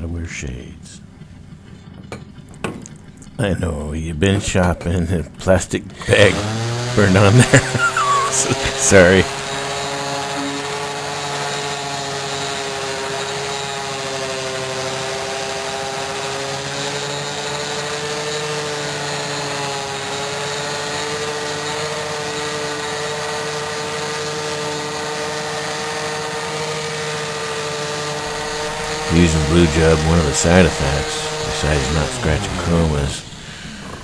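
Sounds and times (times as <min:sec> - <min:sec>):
electric orbital sander humming: 0:06.0 - 0:34.0.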